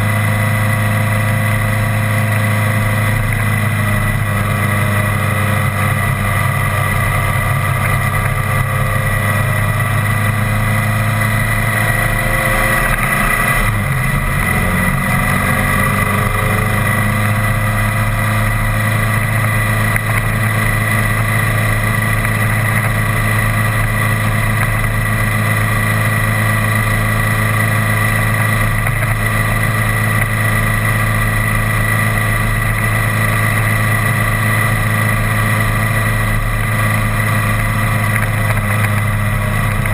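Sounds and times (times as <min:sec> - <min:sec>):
tyre and road noise: 0:00.0 - 0:39.9
vehicle engine running: 0:00.0 - 0:39.9.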